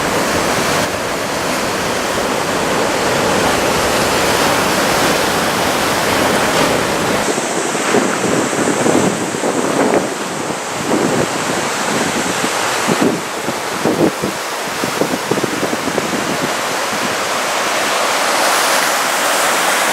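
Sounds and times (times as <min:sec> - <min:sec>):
wind buffeting microphone: 0:00.0 - 0:17.8
heavy surf breaking: 0:00.0 - 0:19.9.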